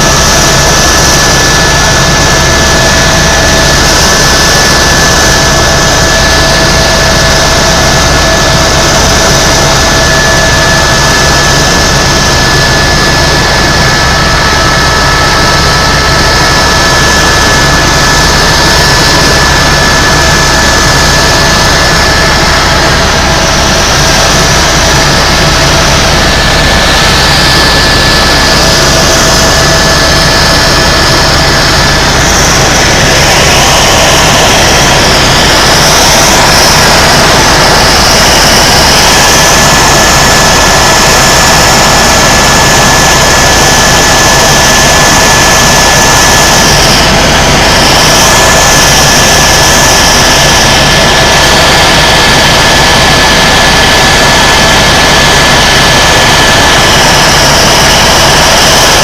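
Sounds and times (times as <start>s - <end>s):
helicopter engine and rotor noise: 0.0s - 59.0s
high whine: 0.0s - 59.0s.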